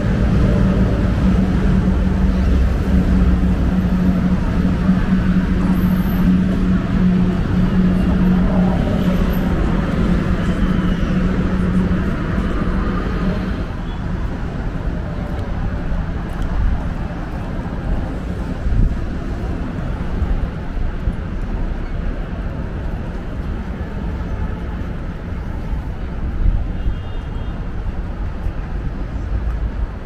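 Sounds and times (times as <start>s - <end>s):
city street traffic hum: 0.0s - 30.0s.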